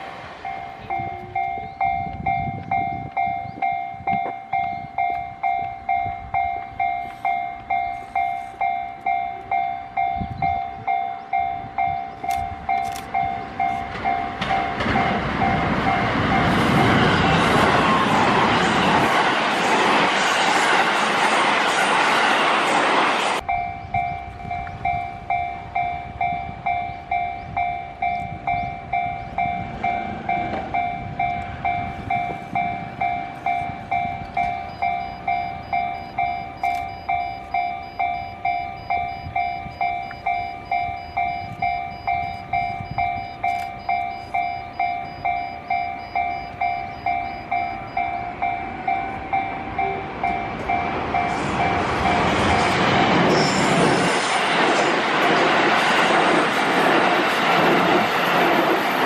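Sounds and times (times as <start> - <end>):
approaching train rumble: 0.0 - 59.0
level crossing warning bell: 0.0 - 59.0.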